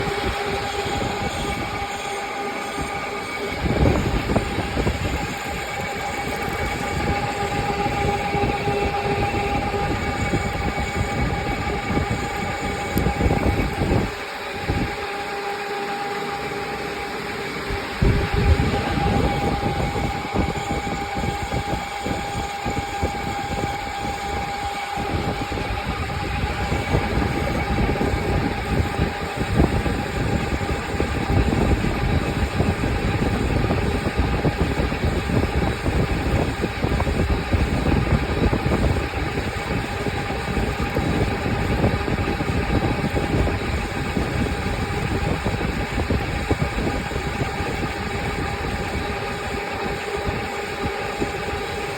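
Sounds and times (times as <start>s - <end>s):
machine rumble: 0.0s - 51.9s
machine whine: 0.0s - 51.9s.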